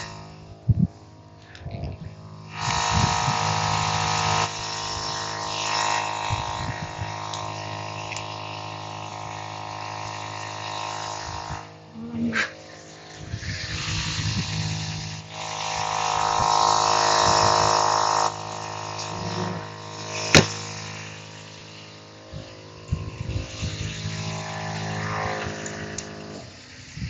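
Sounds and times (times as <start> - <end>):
air compressor running: 0.0 - 27.0.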